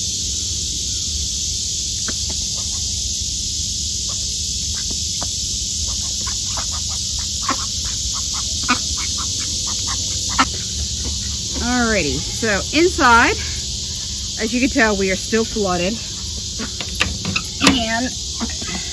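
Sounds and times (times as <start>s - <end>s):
steady high hiss: 0.0s - 18.9s
ducks feeding with soft clicks: 0.3s - 18.9s
ducks calling: 2.0s - 2.9s, 4.0s - 18.9s.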